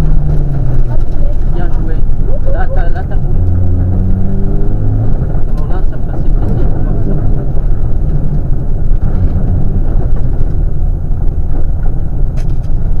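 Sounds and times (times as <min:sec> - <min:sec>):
car engine wind and road noise: 0:00.0 - 0:13.0.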